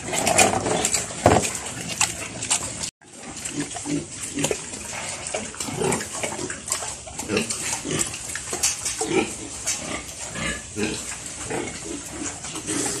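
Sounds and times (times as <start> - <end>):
pig grunting: 0.0 - 8.3, 8.9 - 13.0.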